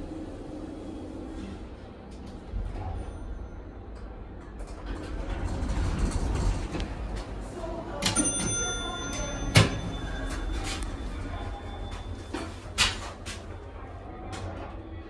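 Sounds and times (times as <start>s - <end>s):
elevator doors sliding open: 0.0s - 13.7s.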